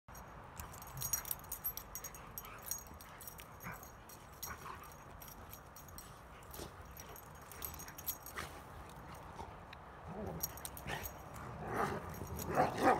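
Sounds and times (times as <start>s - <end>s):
metal collar tags jingling: 0.1s - 12.9s.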